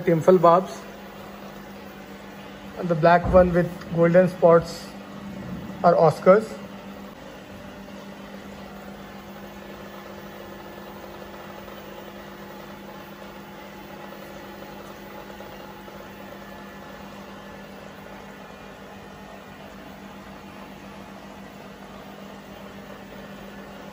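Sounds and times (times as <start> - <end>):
aquarium air pump humming: 0.0 - 23.9.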